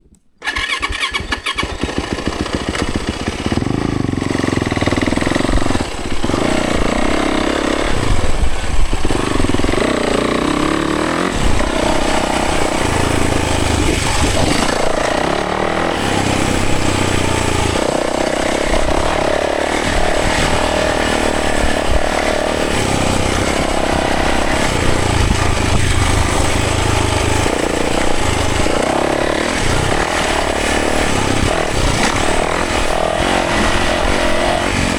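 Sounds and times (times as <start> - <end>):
dirt bike engine revving: 0.4 - 34.9.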